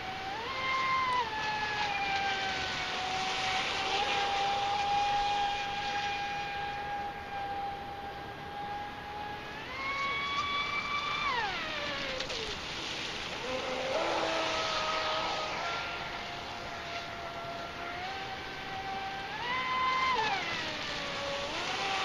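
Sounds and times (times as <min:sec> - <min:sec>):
electric motor whining: 0:00.0 - 0:22.0
water hissing off hull: 0:00.0 - 0:22.0.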